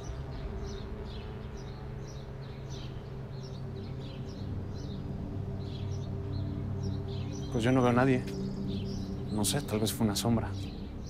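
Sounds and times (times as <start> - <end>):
low steady drone: 0.0 - 11.0
small birds chirping: 0.0 - 11.0.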